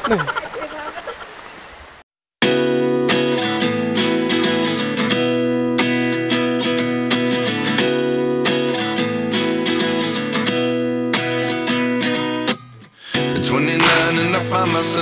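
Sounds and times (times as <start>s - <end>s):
acoustic guitar strumming chords: 2.4s - 15.0s.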